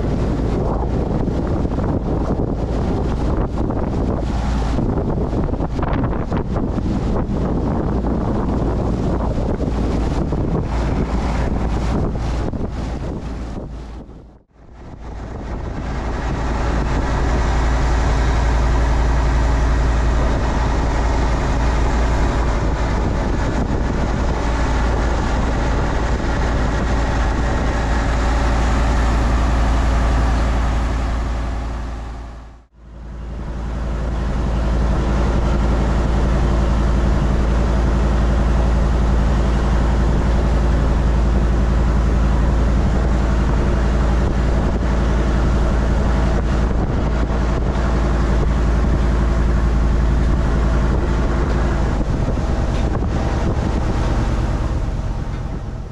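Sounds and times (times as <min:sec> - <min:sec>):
boat engine droning: 0:00.0 - 0:55.9.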